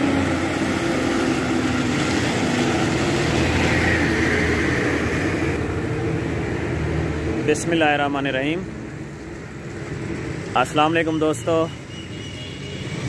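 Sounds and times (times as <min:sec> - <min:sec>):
bus engine running: 0:00.0 - 0:10.7
road noise: 0:00.0 - 0:13.0.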